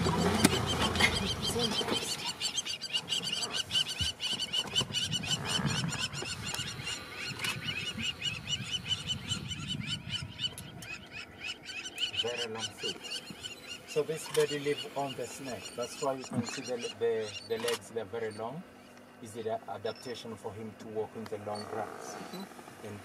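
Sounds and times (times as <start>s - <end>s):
birds calling in quick high notes: 0.0s - 20.4s.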